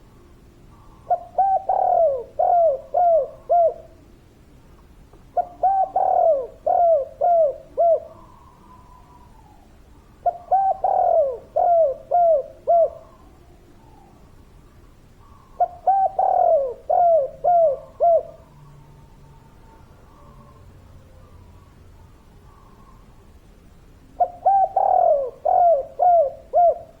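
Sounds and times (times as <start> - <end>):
dove cooing: 0.0 - 4.0, 5.3 - 14.3, 15.2 - 21.7, 24.1 - 27.0.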